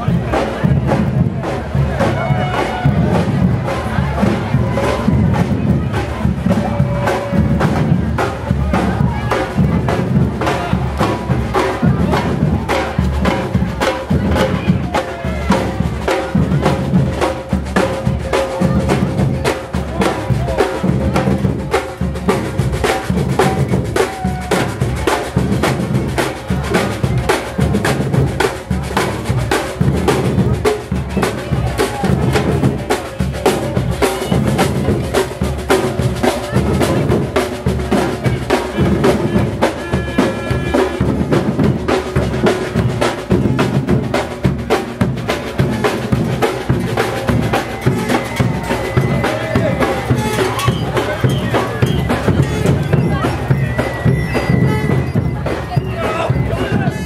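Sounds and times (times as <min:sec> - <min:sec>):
bass drums beating: 0:00.0 - 0:57.0
street drum band: 0:00.0 - 0:57.0.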